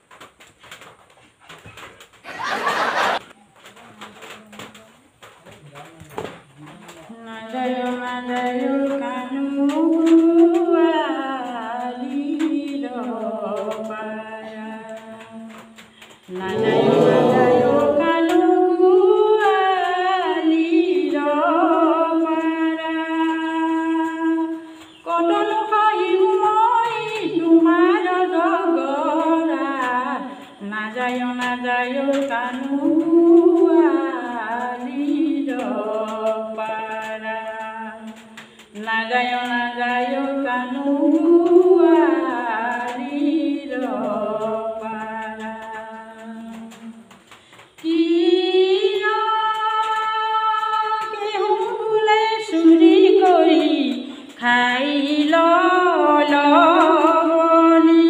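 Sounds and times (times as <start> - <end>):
woman singing unaccompanied: 7.1 - 47.2, 47.8 - 58.0.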